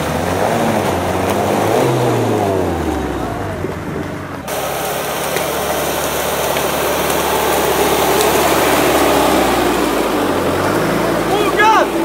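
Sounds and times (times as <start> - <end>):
engine running under load: 0.0 - 12.0.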